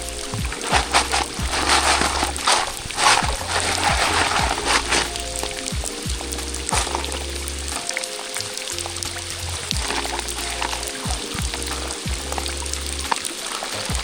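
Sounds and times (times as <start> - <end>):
background music: 0.0 - 14.0
rain pattering: 0.0 - 14.0
water sloshing in a pan: 0.0 - 14.0.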